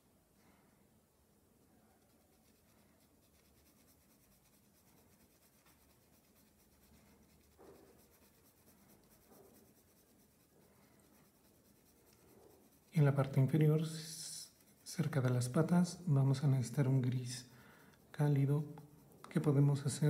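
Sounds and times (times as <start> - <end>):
pencil scratching on paper: 1.9 - 20.0.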